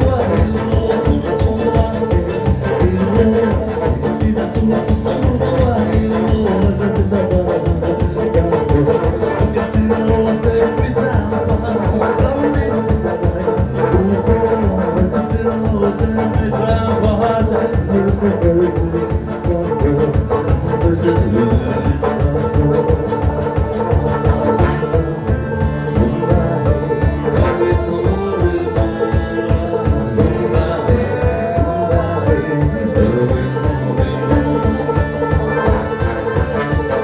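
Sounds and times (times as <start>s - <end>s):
folk band playing live: 0.0s - 37.0s.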